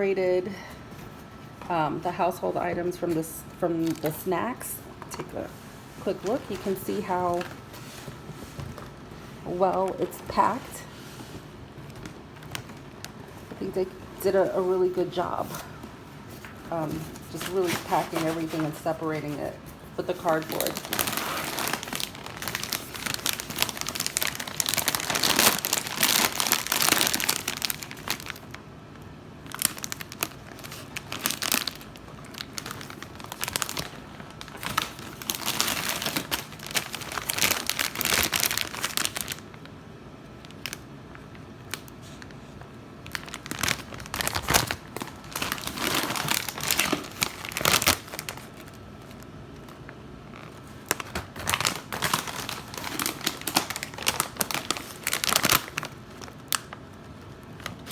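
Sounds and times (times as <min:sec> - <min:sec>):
packaging crinkling: 0:02.9 - 0:05.4, 0:06.0 - 0:28.6, 0:29.4 - 0:57.9.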